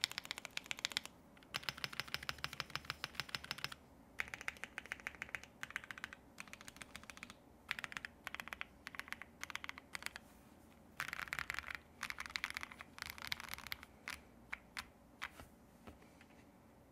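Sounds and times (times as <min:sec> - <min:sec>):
mechanical keyboard typing: 0:00.0 - 0:10.2, 0:11.0 - 0:15.4.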